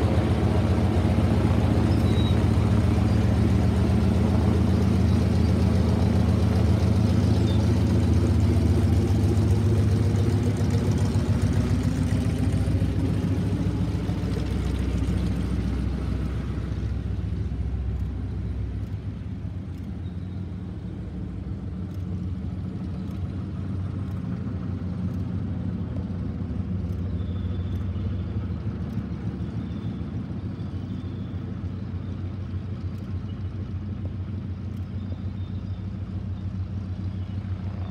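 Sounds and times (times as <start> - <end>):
radial aircraft engine running: 0.0 - 37.9.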